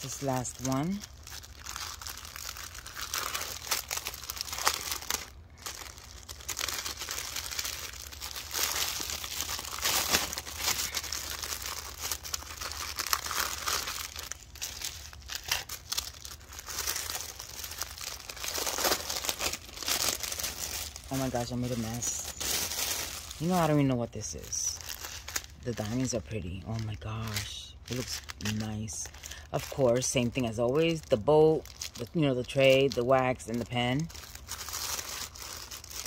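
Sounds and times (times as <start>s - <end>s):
plastic wrapping crinkling: 0.0s - 36.0s.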